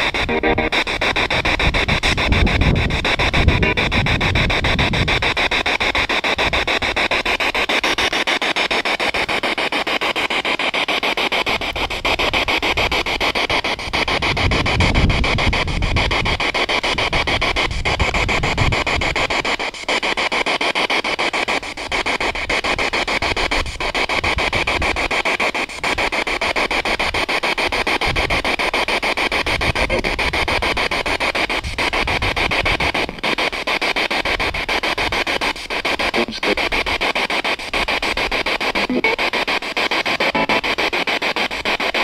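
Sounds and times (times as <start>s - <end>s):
radio static sweeping stations: 0.0s - 42.0s.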